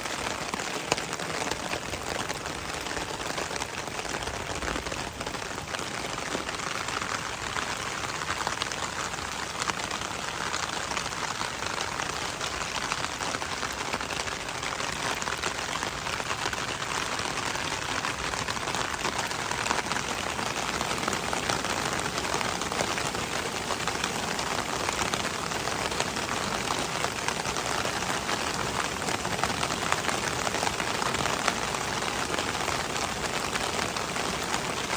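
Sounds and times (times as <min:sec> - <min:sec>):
rain on hard surfaces: 0:00.0 - 0:34.9.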